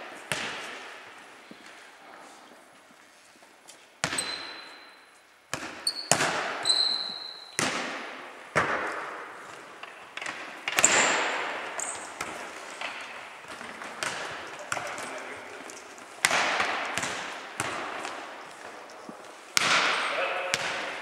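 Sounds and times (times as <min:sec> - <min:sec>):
football hits echoing in hall: 0:00.0 - 0:01.8, 0:04.0 - 0:21.0.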